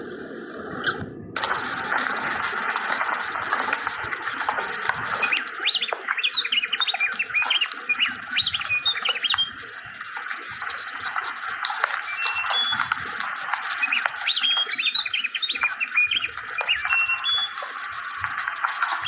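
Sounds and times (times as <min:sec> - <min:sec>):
small birds chirping: 0:02.5 - 0:19.0.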